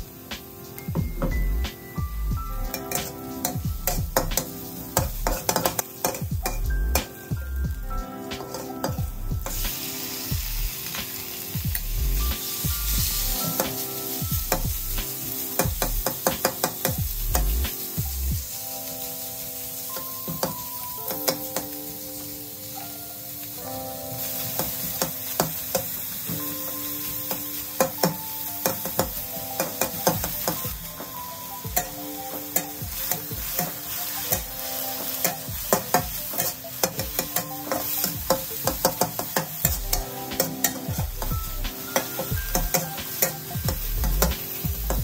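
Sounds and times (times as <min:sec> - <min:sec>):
meat sizzling in a wok: 0:00.0 - 0:45.0.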